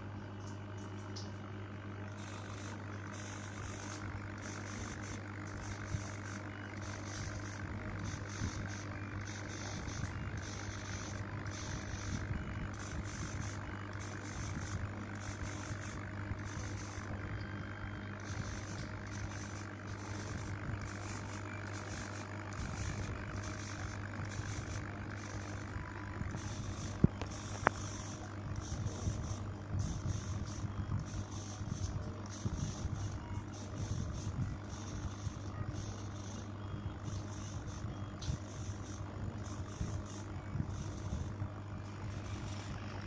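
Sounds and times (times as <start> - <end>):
high motor whine: 0.0 - 43.0
low motor hum: 0.0 - 43.0.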